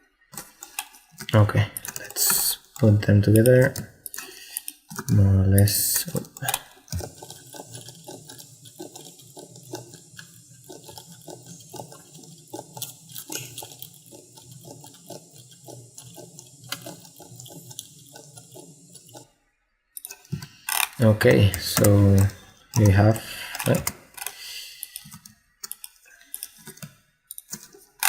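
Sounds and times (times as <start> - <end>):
mouse and keyboard clicking: 0.3 - 19.2, 20.0 - 27.8.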